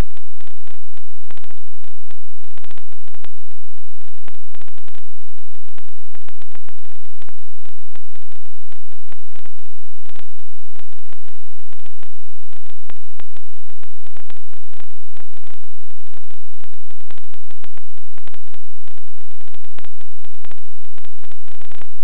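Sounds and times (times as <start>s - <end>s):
crackling clicks: 0.0s - 22.0s
static hiss: 0.0s - 22.0s.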